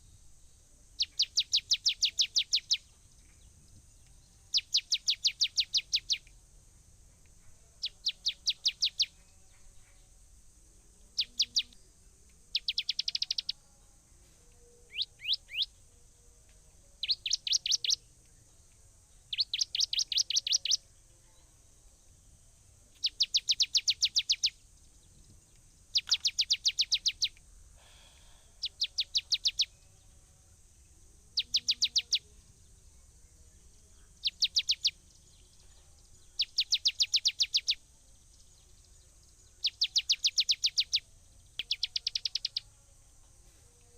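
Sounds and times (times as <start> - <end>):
faint high hiss: 0.0 - 43.9.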